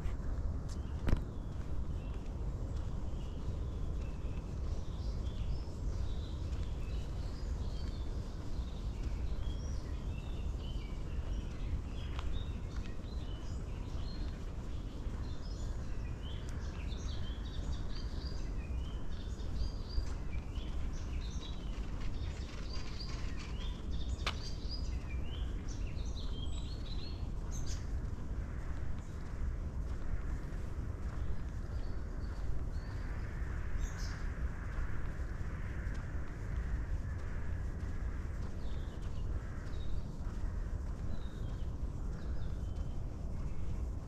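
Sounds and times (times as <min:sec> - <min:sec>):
songbirds chirping: 0:00.0 - 0:44.0
steady low rumble: 0:00.0 - 0:44.0.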